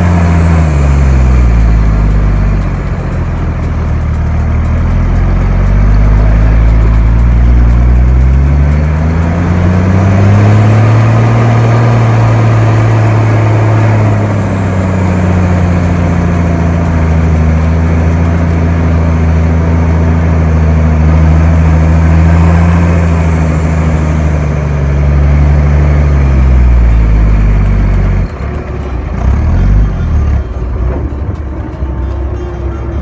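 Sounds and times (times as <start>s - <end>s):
engine pulling through sand: 0.0s - 31.5s.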